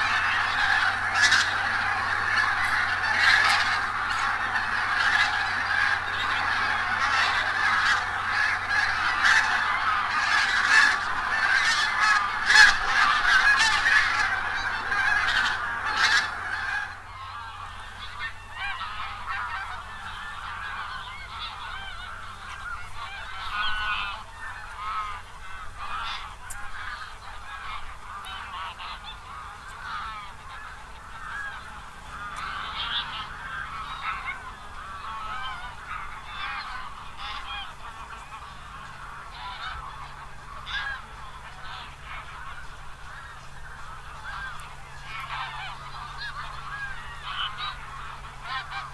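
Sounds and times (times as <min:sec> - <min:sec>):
geese honking: 0:00.0 - 0:48.9.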